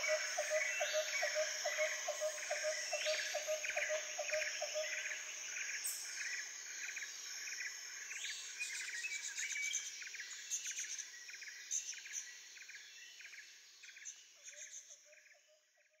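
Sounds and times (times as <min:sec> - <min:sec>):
insects chirping: 0:00.0 - 0:15.4.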